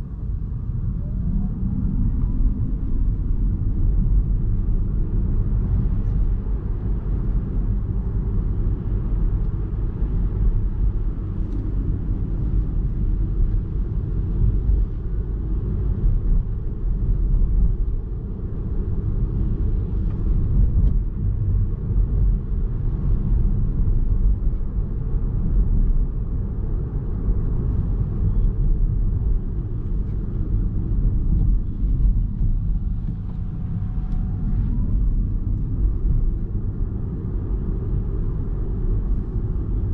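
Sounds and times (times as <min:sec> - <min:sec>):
tyre and road noise: 0:00.0 - 0:39.9.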